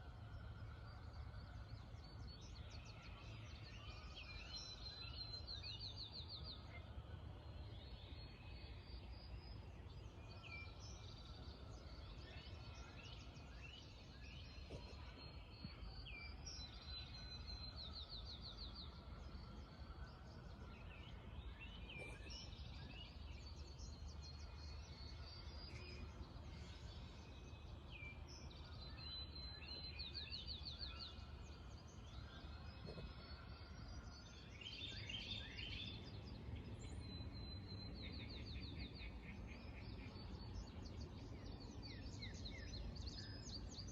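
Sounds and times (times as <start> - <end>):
birds singing and calling: 1.8 - 43.9.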